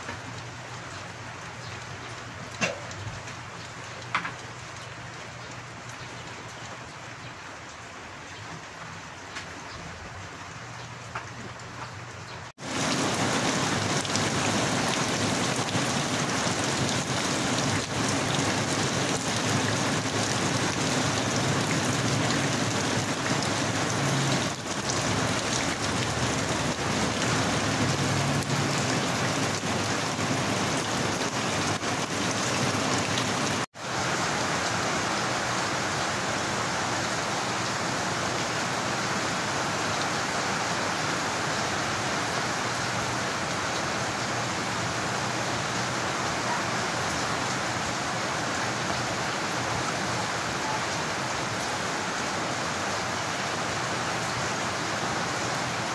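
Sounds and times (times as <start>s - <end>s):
rain falling: 0.0s - 55.9s.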